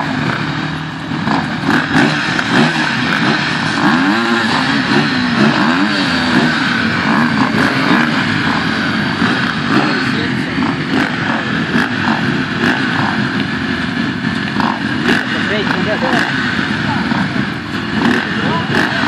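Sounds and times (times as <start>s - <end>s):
motorcycle engines revving: 0.0s - 19.0s
steady engine din: 0.0s - 19.0s.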